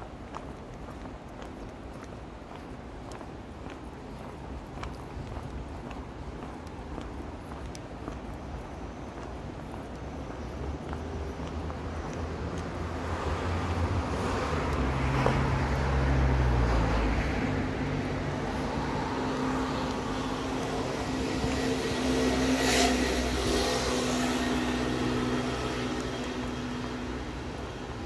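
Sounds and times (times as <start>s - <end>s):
vehicles passing close by: 0.0s - 28.0s.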